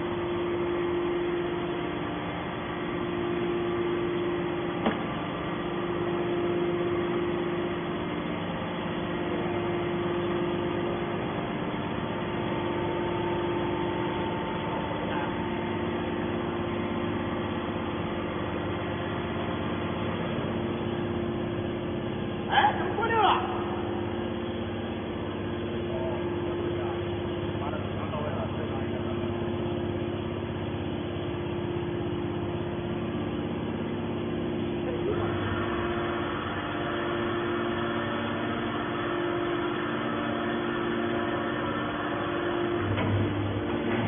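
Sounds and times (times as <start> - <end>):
baler machine hum: 0.0 - 44.0.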